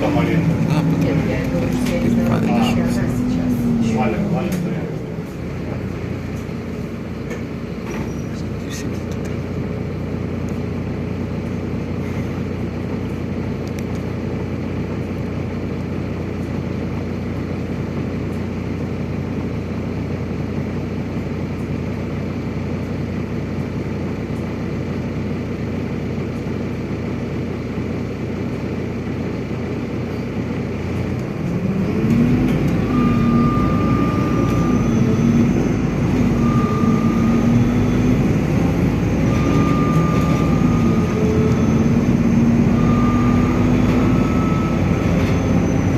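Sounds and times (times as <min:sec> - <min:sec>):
bus drivetrain whine: 0:00.0 - 0:45.9
bus engine humming: 0:00.0 - 0:45.9.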